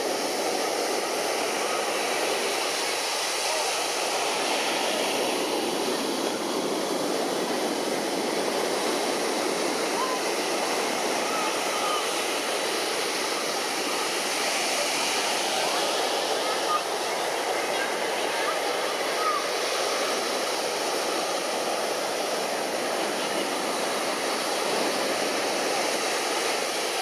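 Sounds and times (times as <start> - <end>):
crowd murmur: 0.0 - 27.0
surf: 0.0 - 27.0.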